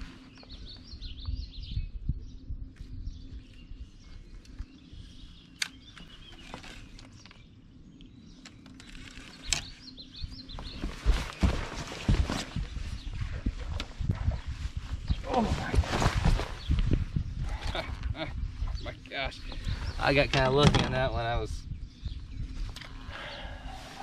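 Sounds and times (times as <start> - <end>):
birds chirping and singing: 0.0 - 24.0
low hum: 0.0 - 24.0.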